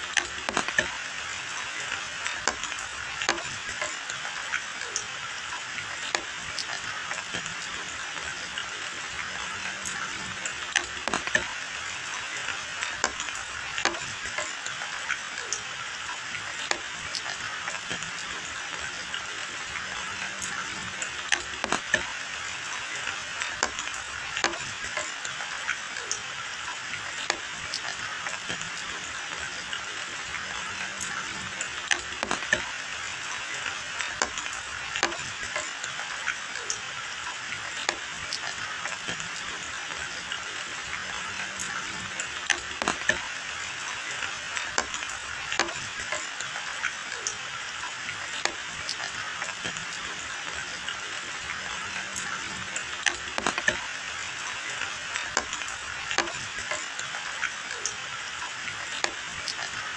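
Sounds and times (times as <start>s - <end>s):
rain drips and splashes: 0.0s - 59.9s
steady rain hiss: 0.0s - 59.9s.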